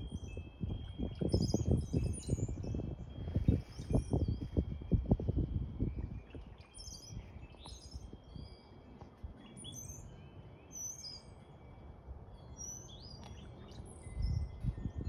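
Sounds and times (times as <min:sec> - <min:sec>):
low rumble on microphone: 0:00.0 - 0:15.0
small birds chirping: 0:00.0 - 0:15.0.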